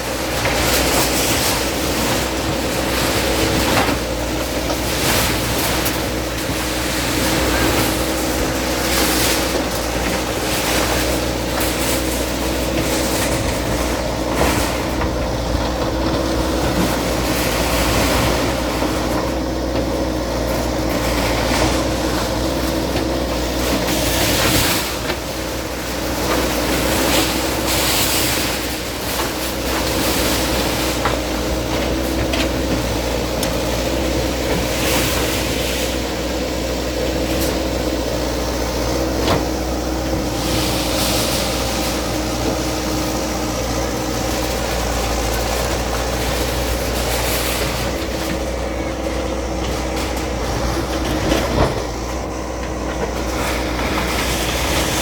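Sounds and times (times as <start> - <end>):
heavy machine diesel engine running: 0.0 - 55.0.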